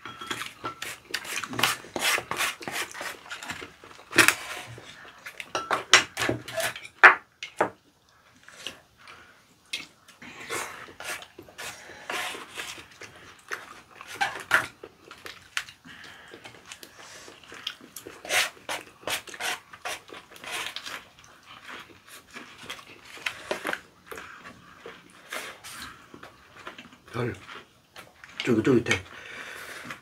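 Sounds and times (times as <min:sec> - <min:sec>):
people chewing and smacking: 0:00.0 - 0:06.8, 0:07.4 - 0:30.0.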